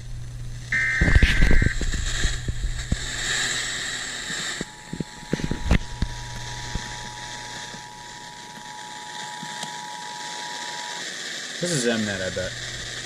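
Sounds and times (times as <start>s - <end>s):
tv static hiss and crackling: 0.0s - 13.0s.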